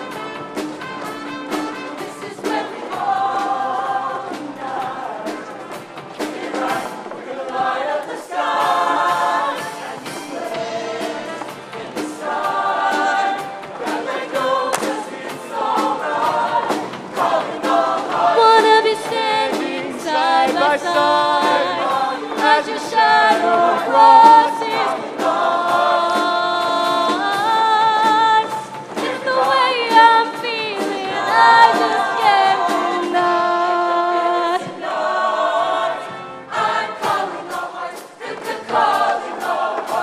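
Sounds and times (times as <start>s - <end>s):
live band playing: 0.0s - 7.3s, 8.5s - 34.8s
drums keeping a steady beat: 0.0s - 33.5s, 36.6s - 40.0s
choir singing in harmony: 0.0s - 40.0s.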